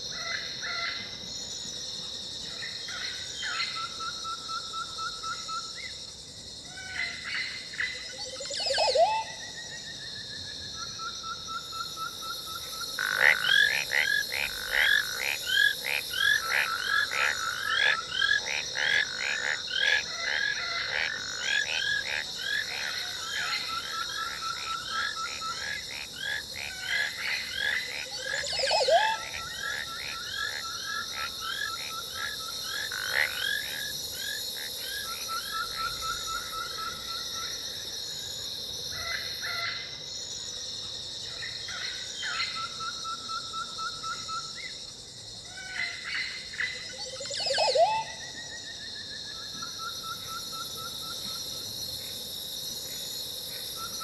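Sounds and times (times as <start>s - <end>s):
frogs croaking: 0.0s - 54.0s
high insect drone: 0.0s - 54.0s.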